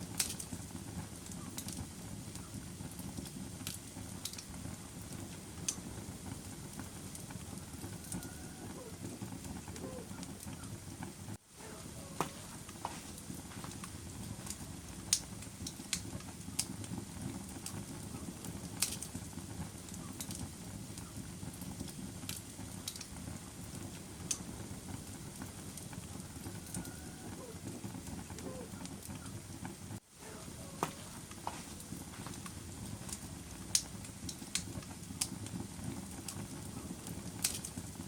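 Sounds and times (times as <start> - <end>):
fire crackling and popping: 0.0 - 38.0
low rumble of flames: 0.0 - 38.0.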